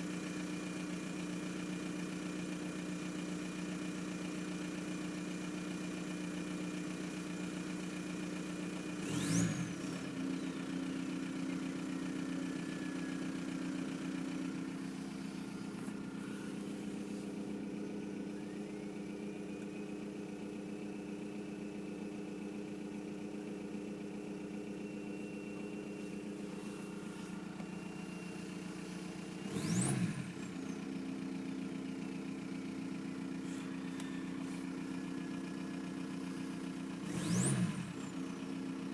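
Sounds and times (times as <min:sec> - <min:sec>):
diesel engine idling roughly: 0:00.0 - 0:38.9.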